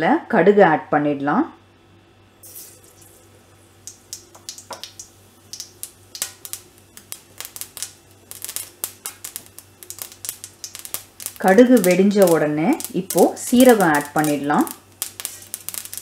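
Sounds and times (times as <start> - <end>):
seeds crackling and popping in oil: 2.4 - 16.0
seeds hissing in hot oil: 2.4 - 16.0.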